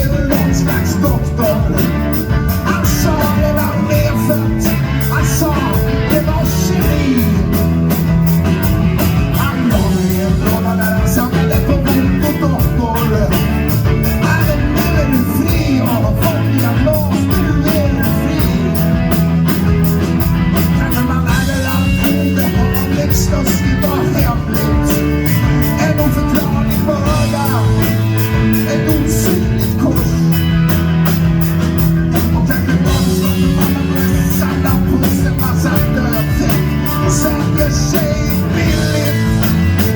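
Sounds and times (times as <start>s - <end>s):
person singing: 0.0s - 8.1s, 8.9s - 30.8s, 31.8s - 39.9s
live rock band playing: 0.0s - 39.9s
steady drumbeat: 0.0s - 39.9s.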